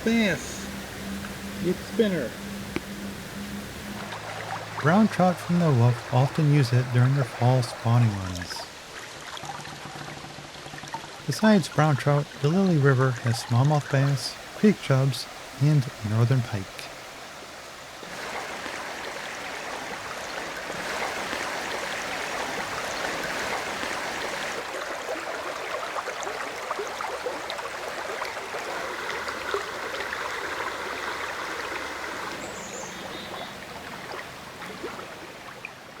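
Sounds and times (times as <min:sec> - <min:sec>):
river water rushing and gurgling: 0:00.0 - 0:36.0.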